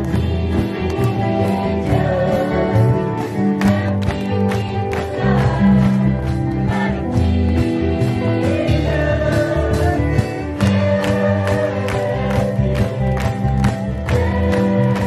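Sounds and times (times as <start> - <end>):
band with steady drum beat: 0.0 - 15.0
group singing in unison: 0.0 - 15.0.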